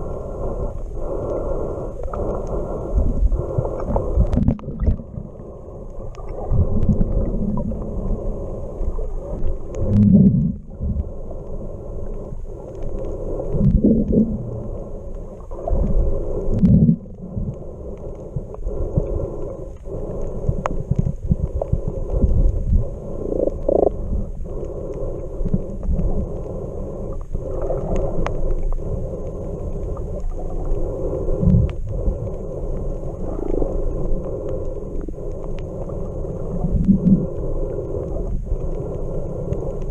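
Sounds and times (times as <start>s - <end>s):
underwater water rumble: 0.0s - 39.9s.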